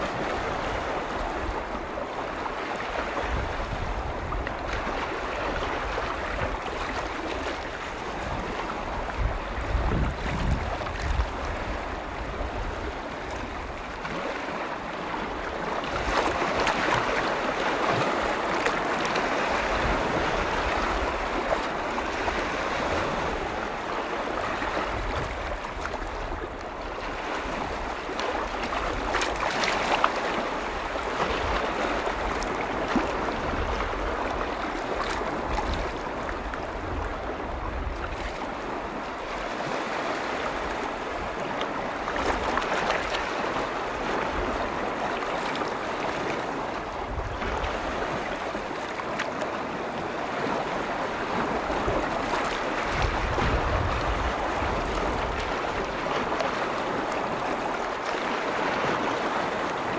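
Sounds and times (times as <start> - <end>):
low rumble of wind: 0.0 - 59.9
waves washing in: 0.0 - 59.9.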